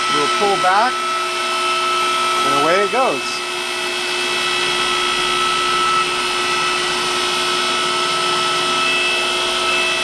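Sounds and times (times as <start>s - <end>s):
hydraulic pump whining: 0.0s - 10.0s.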